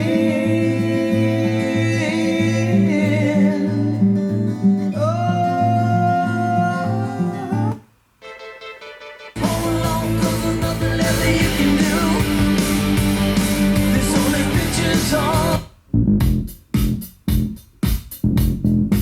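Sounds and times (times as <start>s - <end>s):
music with plucked guitar: 0.0s - 15.6s.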